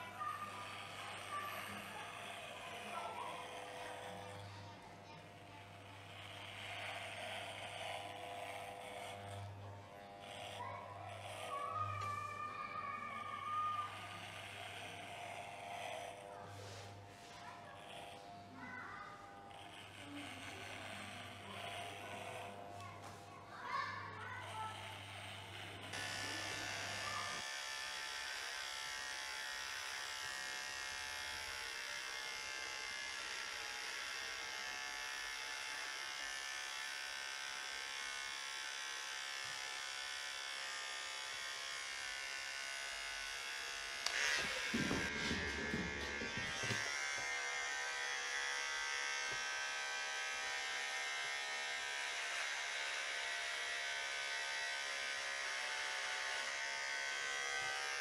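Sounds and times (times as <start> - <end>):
electric hair clippers buzzing: 0.0 - 58.0.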